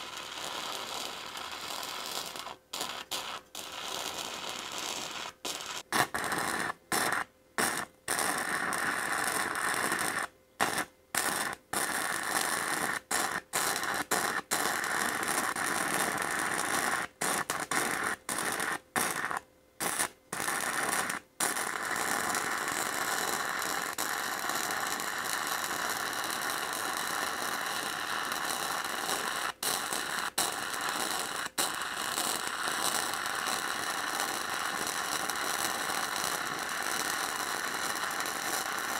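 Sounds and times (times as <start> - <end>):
welder arc crackling: 0.0 - 38.9.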